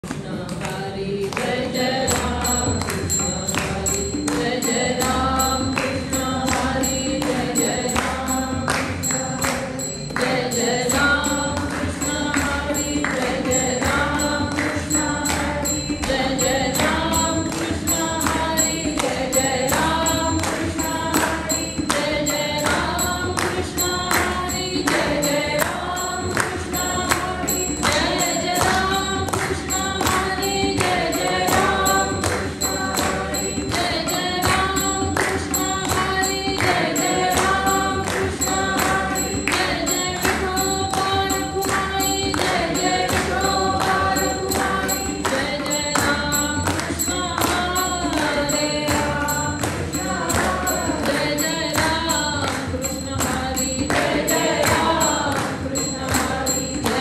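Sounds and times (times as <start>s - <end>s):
tabla rhythm: 0.0s - 57.0s
woman singing into a microphone: 0.0s - 57.0s.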